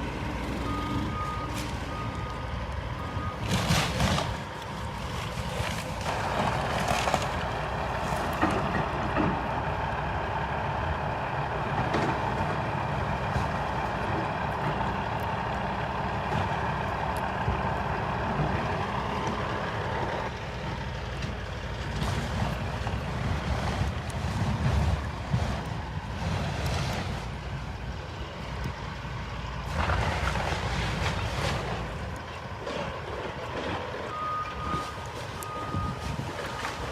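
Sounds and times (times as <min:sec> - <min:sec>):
heavy construction machinery running: 0:00.0 - 0:36.9.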